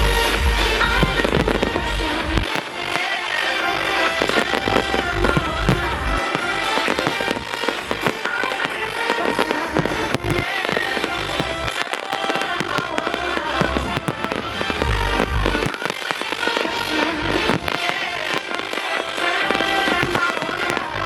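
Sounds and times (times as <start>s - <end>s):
music soundtrack: 0.0s - 21.0s
fireworks popping and banging: 0.6s - 21.0s.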